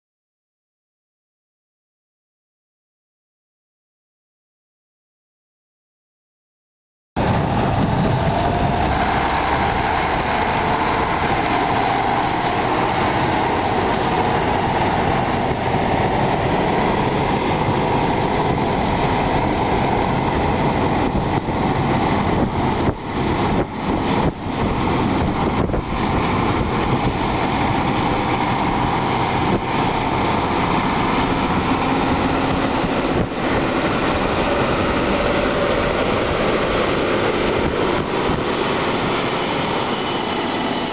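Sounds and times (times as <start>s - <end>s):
tractor diesel engine running: 7.3s - 40.6s.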